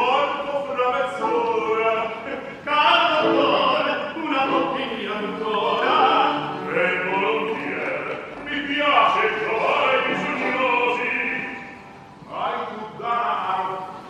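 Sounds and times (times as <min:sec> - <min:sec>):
opera singing: 0:00.0 - 0:14.0.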